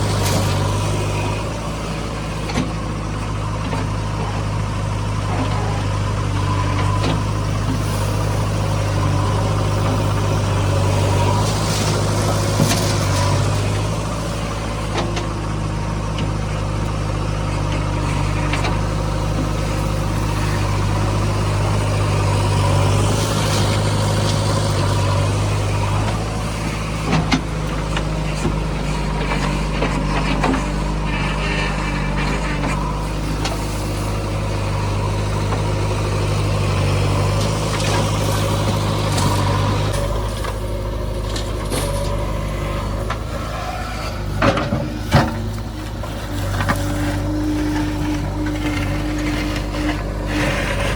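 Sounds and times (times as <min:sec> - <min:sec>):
heavy diesel engine running: 0:00.0 - 0:50.9.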